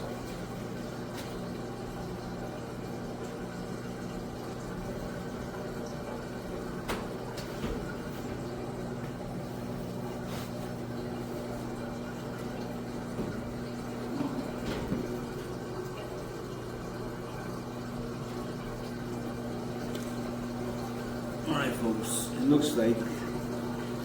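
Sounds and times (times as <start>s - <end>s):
washing machine humming: 0.0s - 24.0s
water rushing into washer: 0.0s - 24.0s.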